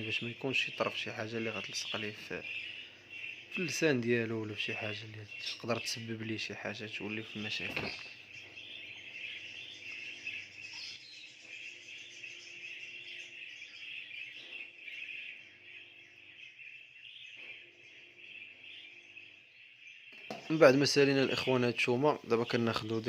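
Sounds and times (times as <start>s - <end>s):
cage birds twittering: 0.0s - 23.0s.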